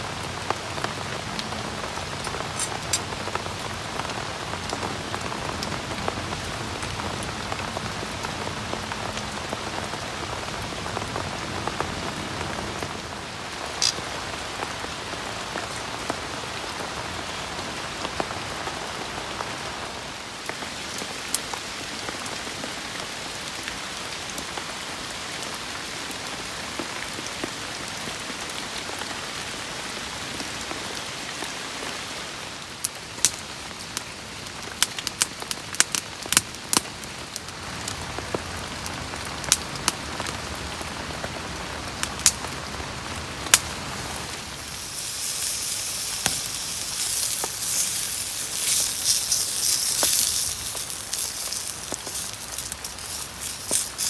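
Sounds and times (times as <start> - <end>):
rain falling on tent: 0.0 - 54.0.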